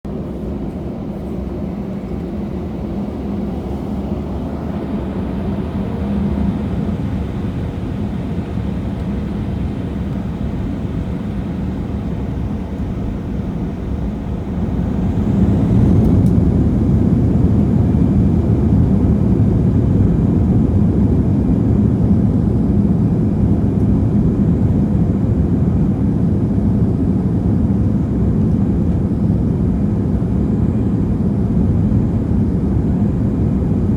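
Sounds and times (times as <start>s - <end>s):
jet engines rumbling during take-off: 0.1s - 33.9s.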